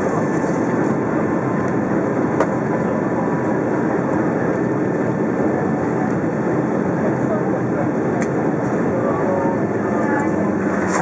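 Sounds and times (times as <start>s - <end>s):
wheels rumbling on runway: 0.0s - 11.0s.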